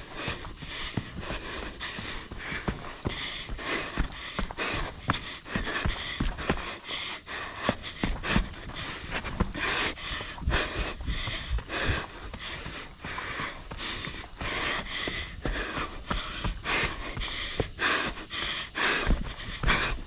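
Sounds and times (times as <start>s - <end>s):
footfalls on dirt and rock: 0.0s - 20.0s
runner heavy panting: 0.0s - 20.0s.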